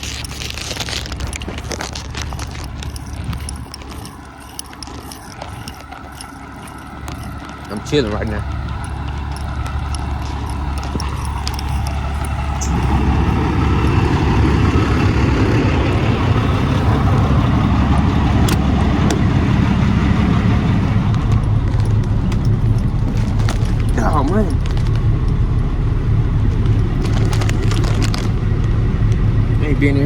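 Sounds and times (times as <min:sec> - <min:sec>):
diesel engine rumbling: 0:00.0 - 0:30.0.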